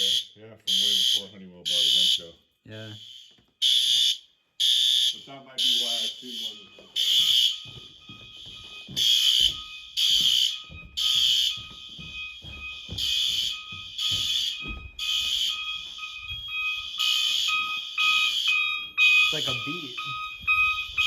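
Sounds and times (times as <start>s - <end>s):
fire alarm horn blasts: 0.0s - 21.0s
steady alarm tone: 0.0s - 21.0s.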